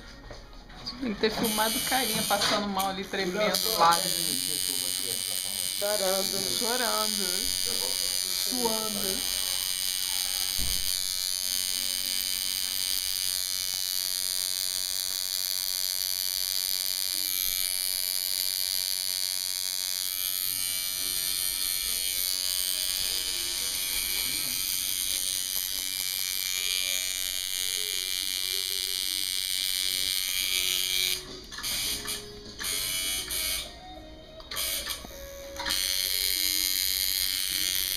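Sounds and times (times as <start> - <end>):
tattoo machine buzzing: 1.2 - 37.9.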